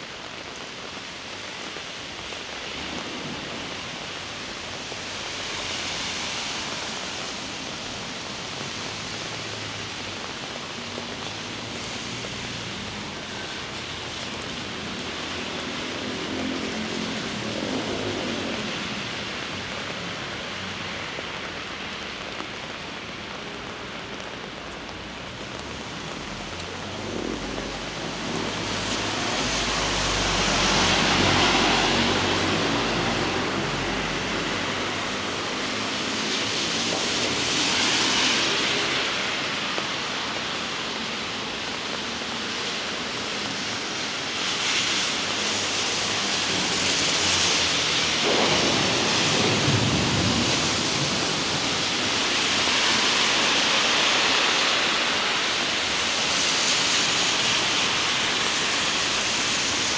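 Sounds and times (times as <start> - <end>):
heavy rain: 0.0 - 59.9
traffic swishing on wet roads: 0.0 - 59.9.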